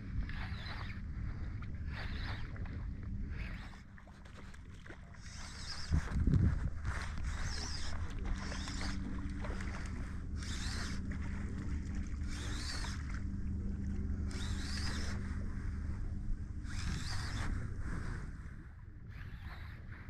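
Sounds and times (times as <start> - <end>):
shallow water lapping: 0.0 - 20.0
steady low hum: 0.0 - 20.0.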